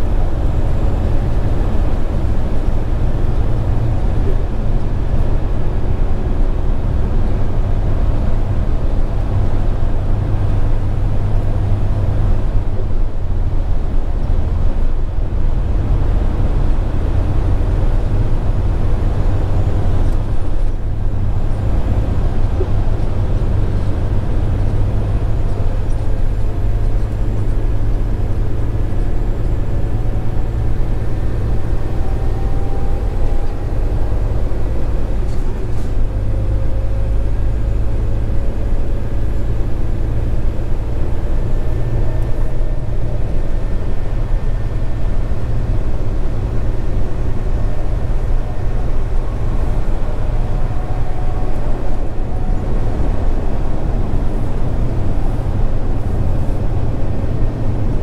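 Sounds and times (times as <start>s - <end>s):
diesel truck engine droning: 0.0s - 58.0s
road noise: 0.0s - 58.0s.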